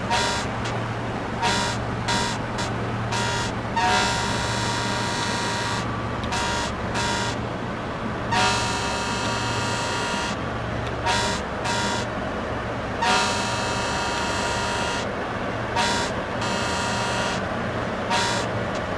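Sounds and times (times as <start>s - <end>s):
ship's horn blasts: 0.0s - 18.9s.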